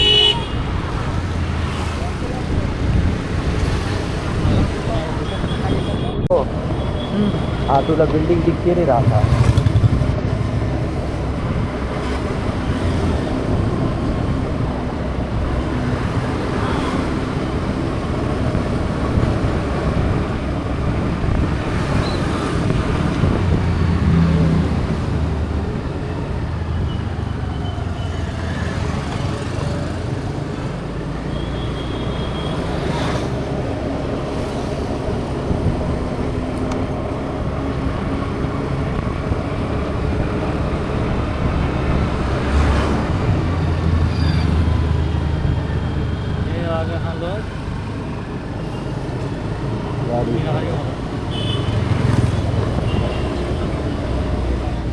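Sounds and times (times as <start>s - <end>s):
vehicle engines running: 0.0s - 31.3s, 32.0s - 54.9s
tyres on road: 0.0s - 54.9s.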